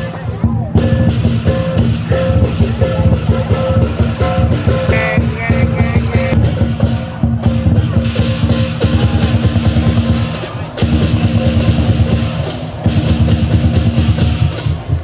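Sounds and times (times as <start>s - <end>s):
cymbals: 0.0s - 15.0s
fast drumming: 0.0s - 15.0s.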